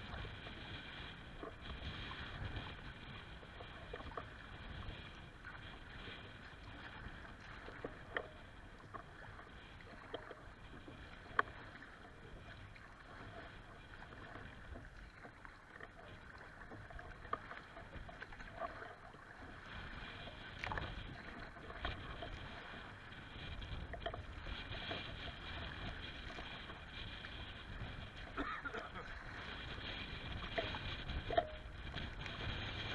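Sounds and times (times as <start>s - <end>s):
water splashing against a kayak: 0.0s - 32.9s
wind buffeting microphone: 0.0s - 32.9s.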